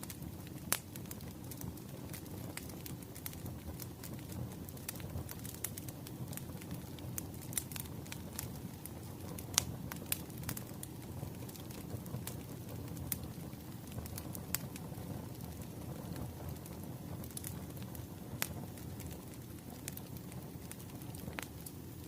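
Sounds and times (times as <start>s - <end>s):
firewood crackling and popping: 0.0s - 22.0s.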